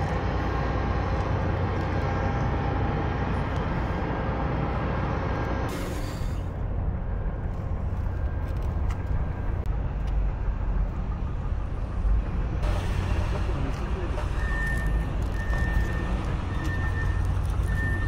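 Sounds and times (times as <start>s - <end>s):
low urban ambience rumble: 0.0s - 18.0s.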